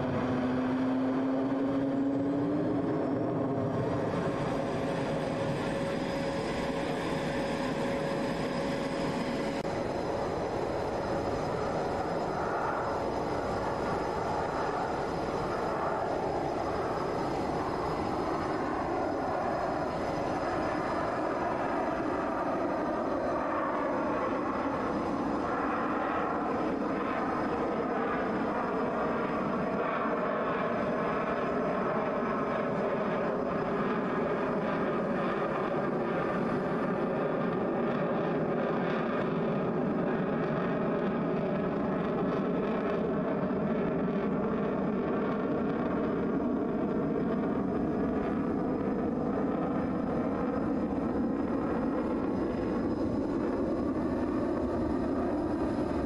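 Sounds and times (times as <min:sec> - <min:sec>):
fighter jet flying over: 0:00.0 - 0:56.0.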